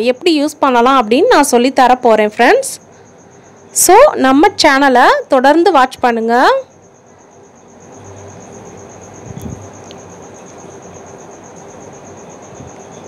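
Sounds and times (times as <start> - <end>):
cricket chirping trill: 0.0 - 13.0
faint steady low hum: 0.0 - 13.0.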